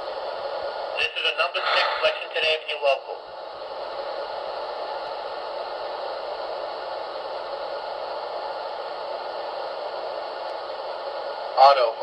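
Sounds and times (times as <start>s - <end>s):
steady hiss from sound system: 0.1s - 12.0s.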